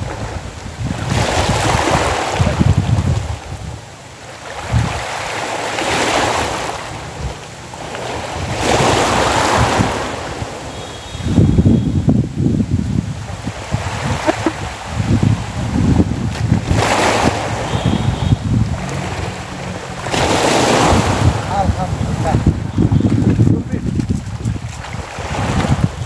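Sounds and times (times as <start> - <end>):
small waves washing in shallows: 0.0 - 26.0
wind buffeting microphone: 0.0 - 26.0.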